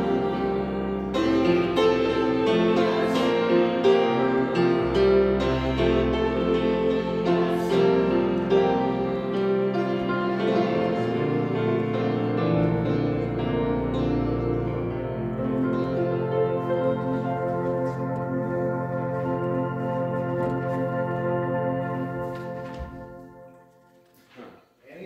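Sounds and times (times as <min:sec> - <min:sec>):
grand piano playing hymn chords: 0:00.0 - 0:24.2.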